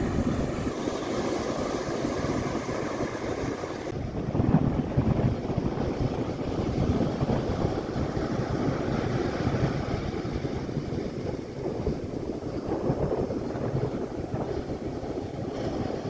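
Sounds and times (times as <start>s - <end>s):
storm surf breaking: 0.0s - 16.0s
wind buffeting microphone: 0.0s - 16.0s.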